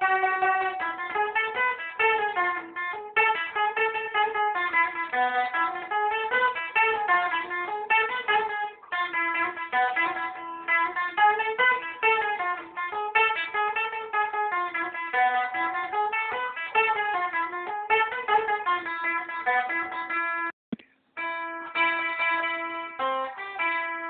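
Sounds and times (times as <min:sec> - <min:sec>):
plucked lute fast melody: 0:00.0 - 0:20.5, 0:21.2 - 0:24.0.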